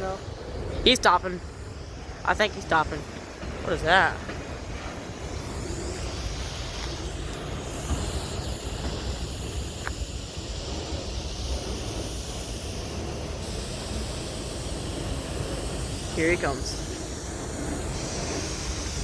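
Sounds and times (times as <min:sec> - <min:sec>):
hiss: 0:00.0 - 0:19.0.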